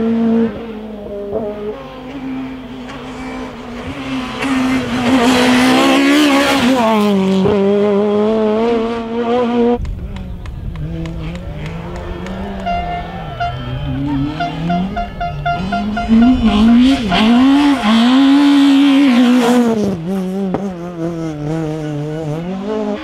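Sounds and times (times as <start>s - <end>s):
lower-pitched rally engine: 0.0s - 23.0s
rally car engine passing at high revs: 0.0s - 23.0s.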